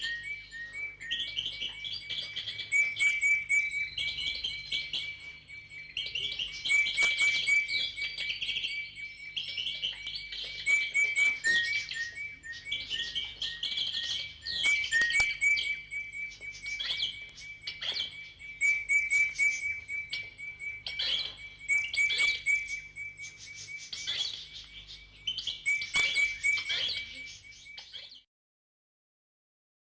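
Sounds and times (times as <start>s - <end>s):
chorus of birds chirping: 0.0s - 28.3s.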